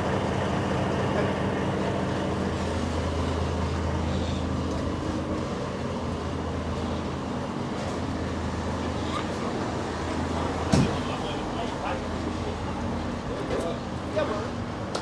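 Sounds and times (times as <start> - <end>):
diesel engine humming: 0.0 - 14.8.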